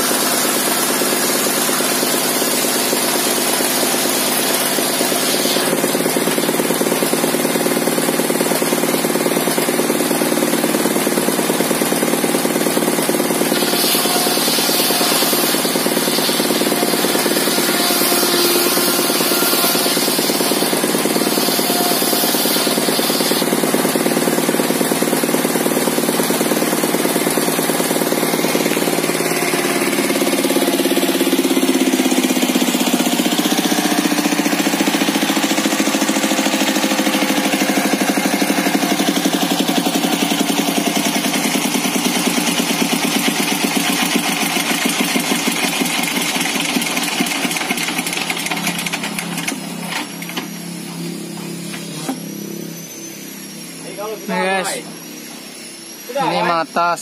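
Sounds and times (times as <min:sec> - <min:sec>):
stationary engine driving saw blade: 0:00.0 - 0:57.0.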